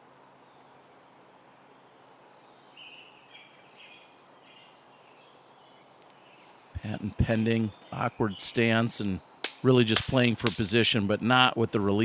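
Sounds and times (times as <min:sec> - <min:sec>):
faint outdoor ambience: 0:00.0 - 0:12.0
bird chirping: 0:00.4 - 0:10.8.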